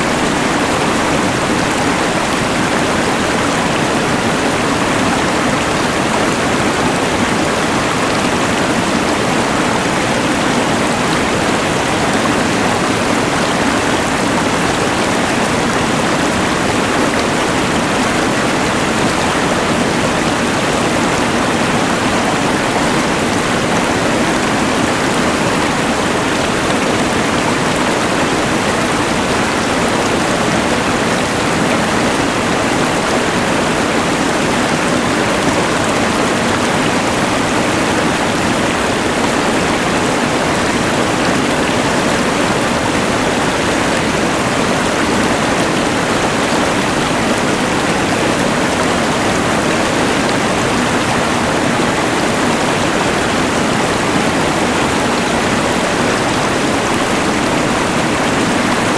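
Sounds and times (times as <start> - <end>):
mountain river rushing: 0.0 - 58.9.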